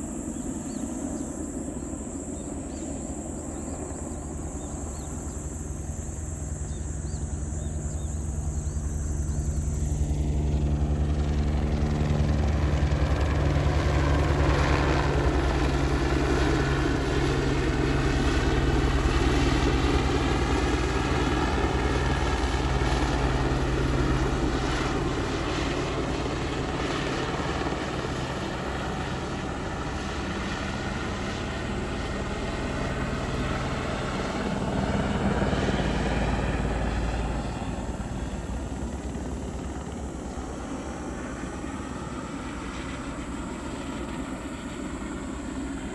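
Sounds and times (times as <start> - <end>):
helicopter flying: 0.0 - 45.9.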